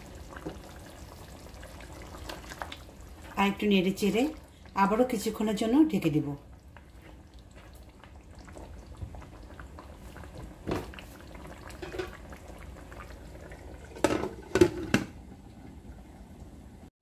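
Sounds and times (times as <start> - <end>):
curry bubbling in a pot: 0.0 - 16.9.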